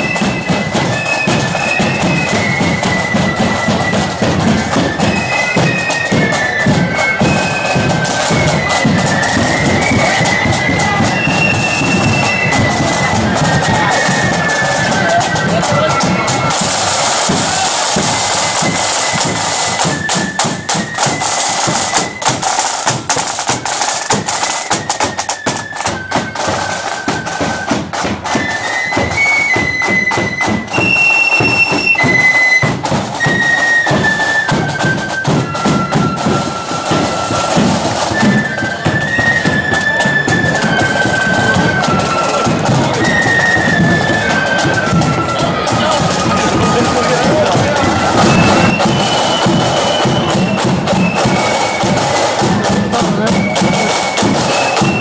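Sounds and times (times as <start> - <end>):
flutes playing melody in unison: 0.0 - 55.0
side drum strokes and rolls: 0.0 - 55.0.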